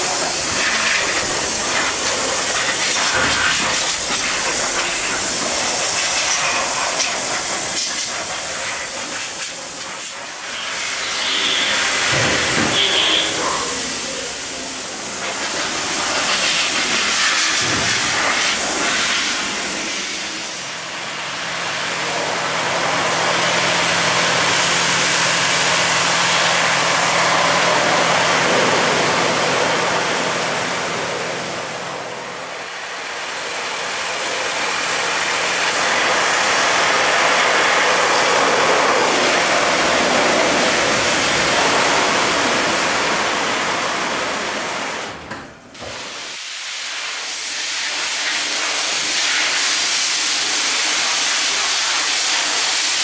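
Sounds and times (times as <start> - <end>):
pressure washer jet hissing: 0.0 - 45.2, 45.8 - 53.0.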